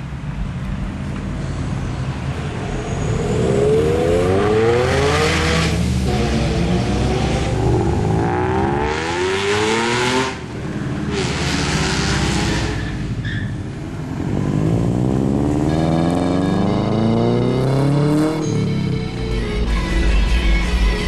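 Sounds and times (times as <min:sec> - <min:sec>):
car engines revving: 0:00.0 - 0:19.7.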